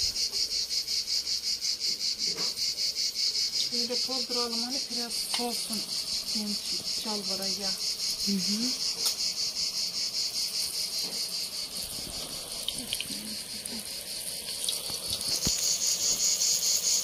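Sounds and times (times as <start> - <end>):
dough frying in oil: 0.0 - 17.0
insects chirping: 0.0 - 17.0.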